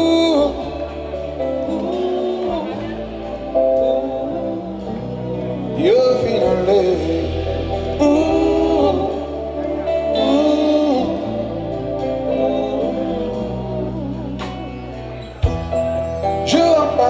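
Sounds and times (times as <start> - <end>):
bass notes: 0.0 - 17.0
live band music: 0.0 - 17.0
person singing long notes: 0.0 - 17.0.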